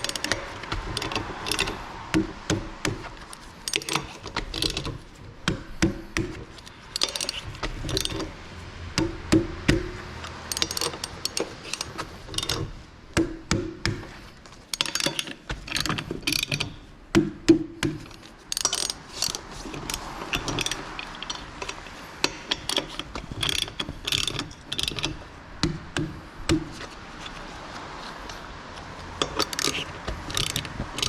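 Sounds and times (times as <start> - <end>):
ratchet wrench clicking: 0.0 - 8.4, 9.0 - 13.8, 14.7 - 16.9, 17.8 - 26.7, 29.2 - 31.0.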